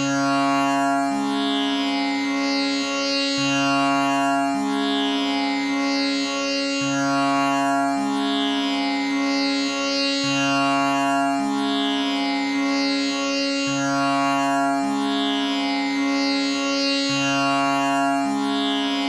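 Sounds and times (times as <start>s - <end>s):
tanpura droning: 0.0s - 19.0s.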